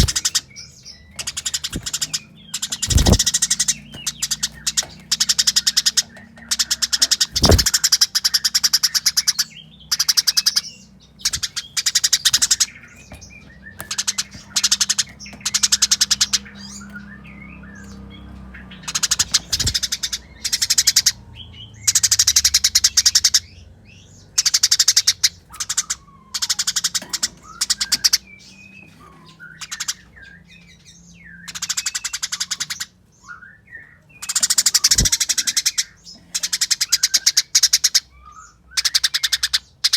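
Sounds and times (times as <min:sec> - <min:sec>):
sparrows harsh chatter: 0:00.0 - 0:39.9.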